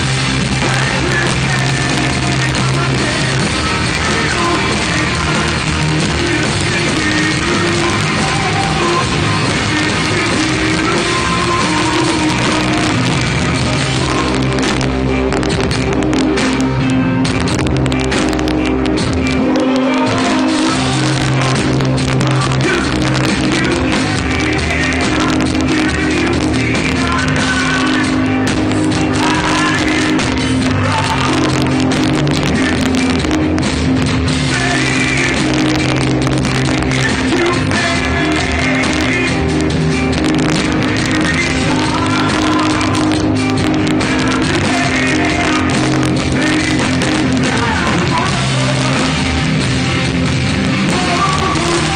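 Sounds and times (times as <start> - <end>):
person singing: 0.0 - 49.8, 50.7 - 51.9
live rock band playing: 0.0 - 51.9.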